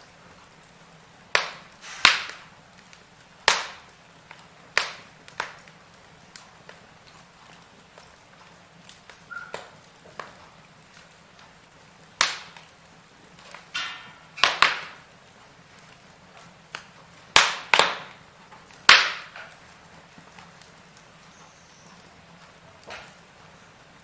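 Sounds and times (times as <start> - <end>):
wood fire crackling: 0.0 - 24.0
sharp pops of fire: 0.1 - 23.9.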